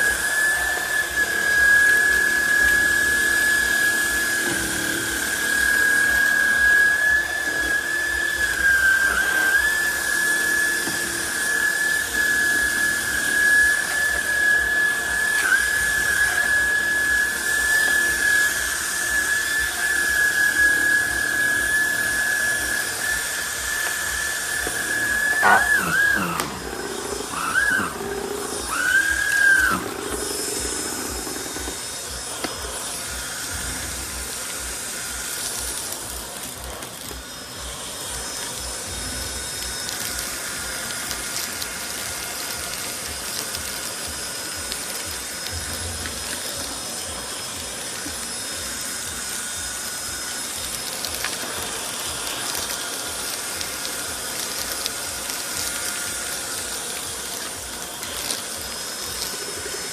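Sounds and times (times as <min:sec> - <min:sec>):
stick vacuum running: 0:00.0 - 0:59.9.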